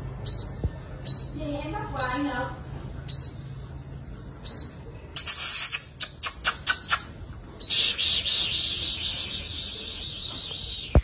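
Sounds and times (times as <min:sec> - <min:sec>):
sunbird twittering song: 0:00.0 - 0:11.0.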